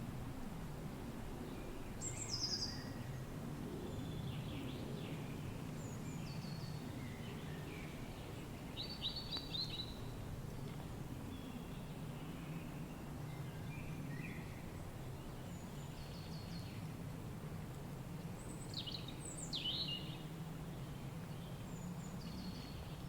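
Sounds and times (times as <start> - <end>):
songbirds singing: 1.5 - 3.2, 3.9 - 17.0, 18.3 - 23.0.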